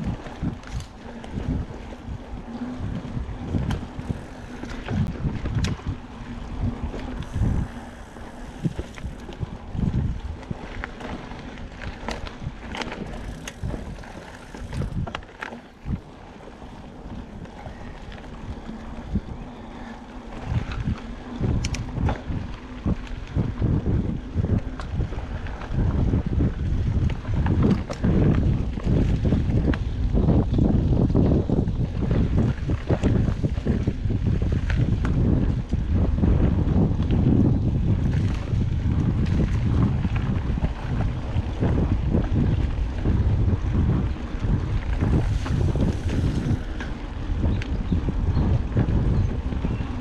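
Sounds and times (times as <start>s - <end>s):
bike clicks and rattles: 0.0s - 50.0s
wind buffeting microphone: 0.0s - 50.0s.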